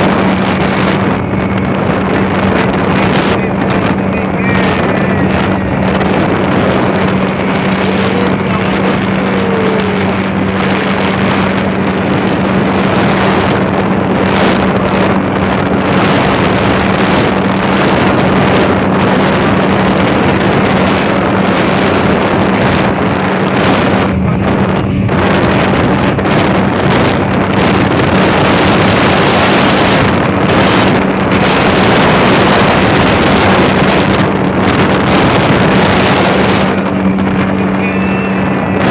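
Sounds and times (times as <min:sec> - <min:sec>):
speedboat engine running: 0:00.0 - 0:38.9
wind buffeting microphone: 0:00.0 - 0:38.9.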